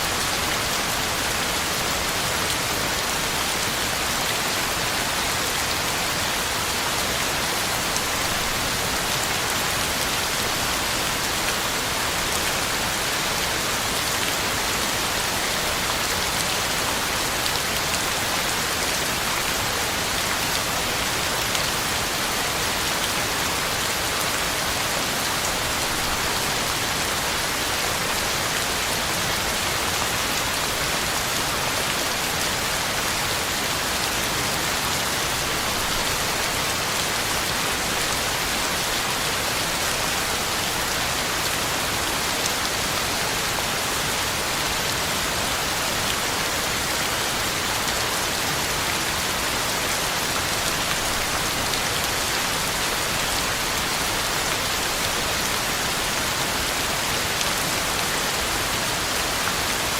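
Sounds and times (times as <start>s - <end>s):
heavy rain on ground and leaves: 0.0s - 59.9s.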